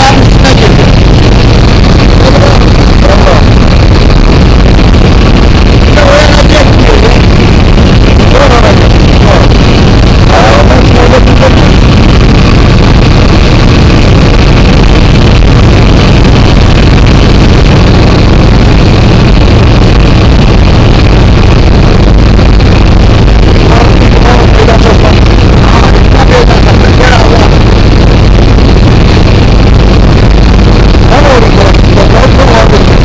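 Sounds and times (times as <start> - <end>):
propeller aircraft engine droning: 0.0 - 33.0.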